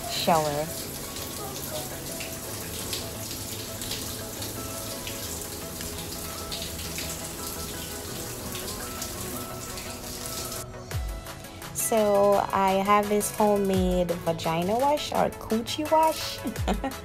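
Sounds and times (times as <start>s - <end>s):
shower running: 0.0s - 10.7s, 11.3s - 17.0s.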